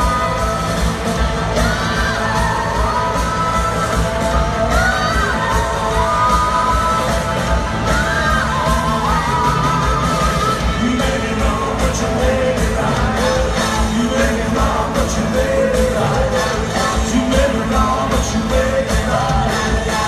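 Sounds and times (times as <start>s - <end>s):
lead vocal singing: 0.0s - 20.0s
live rock band playing: 0.0s - 20.0s
steady drum beat: 0.0s - 20.0s.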